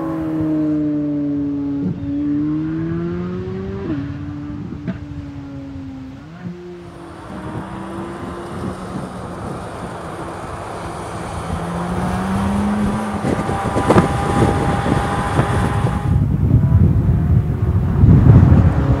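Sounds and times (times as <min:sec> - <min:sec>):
race car engine: 0:00.0 - 0:19.0.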